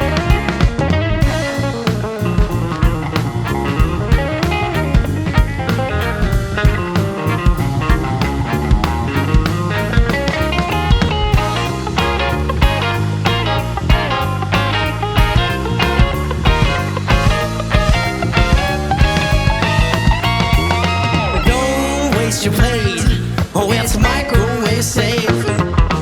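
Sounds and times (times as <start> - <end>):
bass guitar: 0.0 - 26.0
drum kit beat: 0.0 - 26.0
electric guitar: 0.0 - 26.0.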